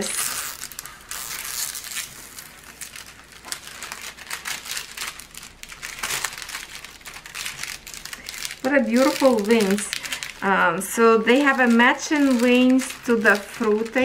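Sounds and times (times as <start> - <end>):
plastic film crinkling: 0.0 - 14.0.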